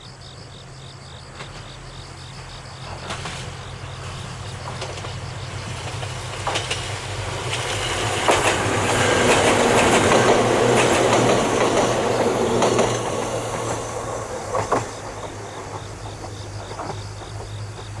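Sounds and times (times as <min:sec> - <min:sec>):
insects chirping: 0:00.0 - 0:18.0
electric train passing: 0:00.3 - 0:18.0
wheels clicking over rail joints: 0:01.2 - 0:18.0.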